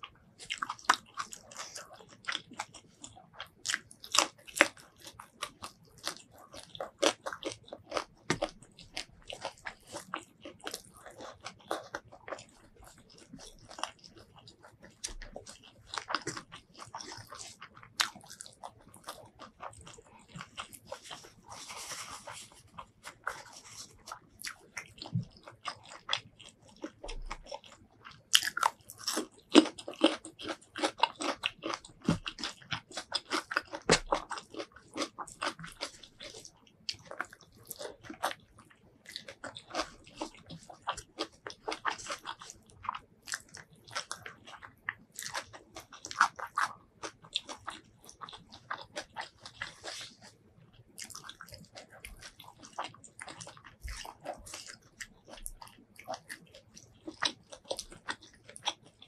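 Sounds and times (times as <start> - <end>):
chewing and biting food: 0.0 - 59.0.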